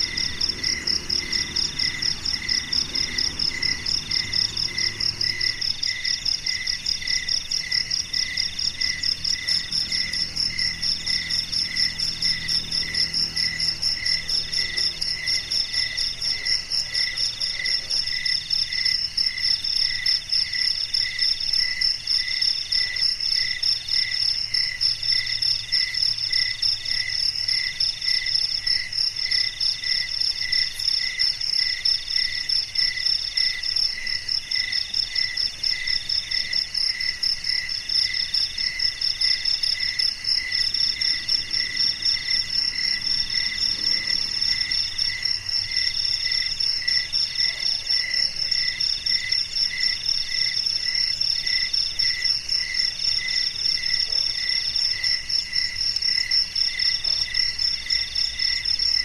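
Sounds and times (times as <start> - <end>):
high insect trill: 0.0 - 59.0
intermittent insect call: 0.0 - 59.0
lower cricket chirp: 0.0 - 59.0.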